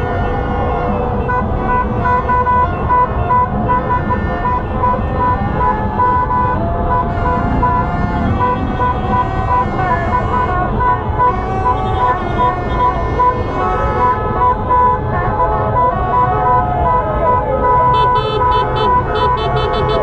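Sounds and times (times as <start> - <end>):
car horns honking: 0.0 - 20.0
dense traffic din: 0.0 - 20.0.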